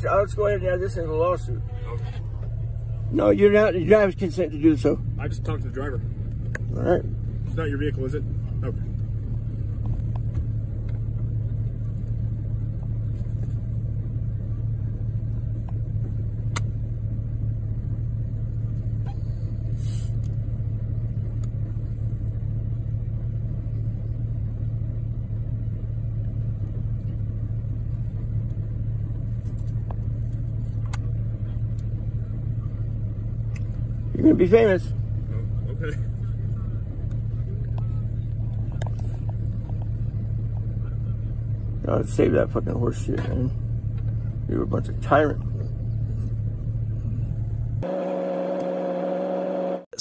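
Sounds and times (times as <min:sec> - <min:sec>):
car idling from inside cabin: 0:00.0 - 0:50.0.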